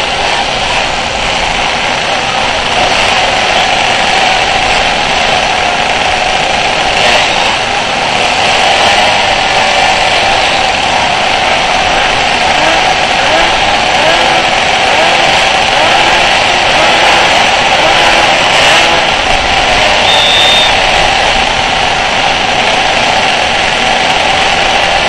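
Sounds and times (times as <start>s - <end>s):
engine revving: 0.0s - 25.0s
small engines idling buzz: 0.0s - 25.0s.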